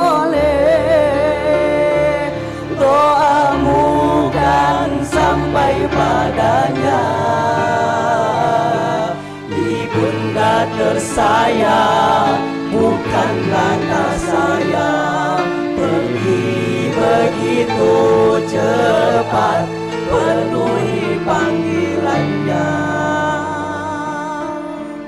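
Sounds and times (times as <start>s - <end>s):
instrumental accompaniment: 0.0s - 25.0s
person singing with vibrato: 0.0s - 25.0s.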